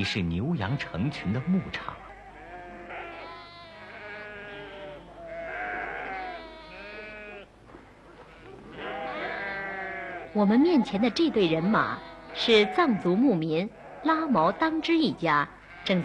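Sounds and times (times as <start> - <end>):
sheep bleating: 0.4 - 7.5, 8.2 - 16.0.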